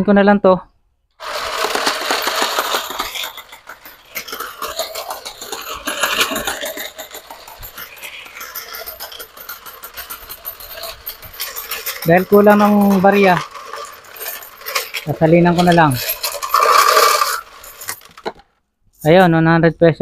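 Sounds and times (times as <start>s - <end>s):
coin hopper paying out coins: 1.2s - 18.4s.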